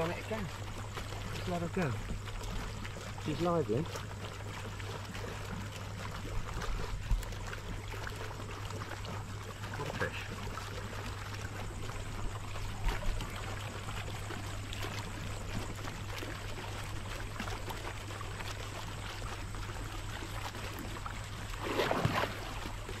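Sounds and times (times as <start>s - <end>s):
steady low hum: 0.0s - 23.0s
water sloshing and splashing: 0.0s - 23.0s
fish splash: 3.8s - 23.0s.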